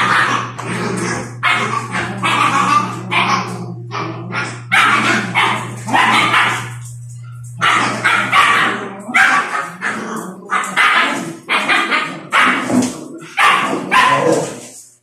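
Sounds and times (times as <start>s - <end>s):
steady low hum: 0.0s - 12.4s
puppies barking and yipping: 0.0s - 14.8s.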